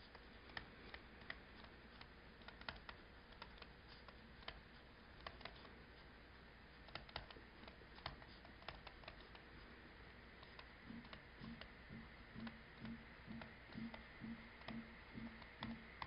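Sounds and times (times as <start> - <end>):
stylus tapping tablet screen: 0.0 - 5.8, 6.8 - 9.6, 10.4 - 16.0.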